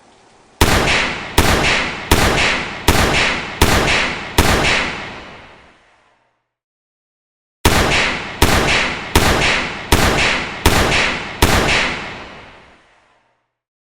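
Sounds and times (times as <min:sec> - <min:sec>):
echoing gunshots: 0:00.6 - 0:06.2, 0:07.6 - 0:13.3.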